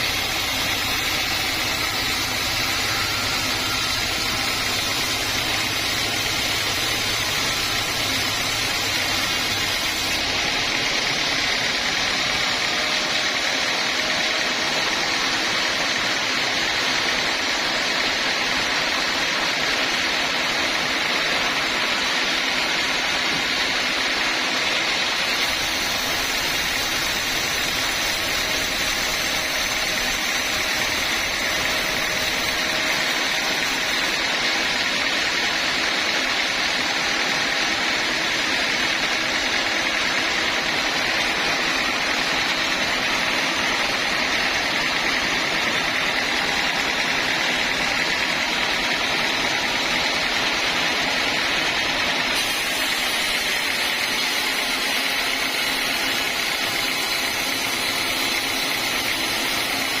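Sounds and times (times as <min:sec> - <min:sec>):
sawmill machinery running: 0:00.0 - 1:00.0.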